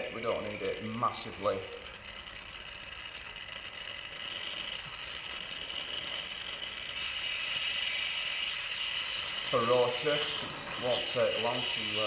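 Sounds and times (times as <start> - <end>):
heat source running: 0.0 - 12.0.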